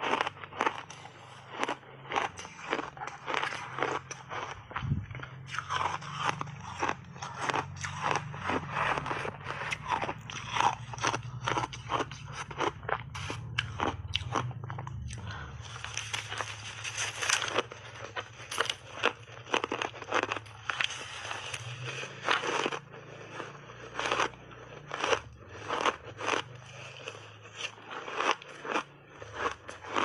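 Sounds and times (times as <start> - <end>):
crunching and chewing ice: 0.0 - 30.0.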